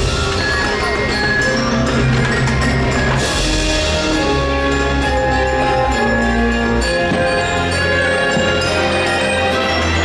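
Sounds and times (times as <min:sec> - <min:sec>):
festive music with percussion: 0:00.0 - 0:10.0.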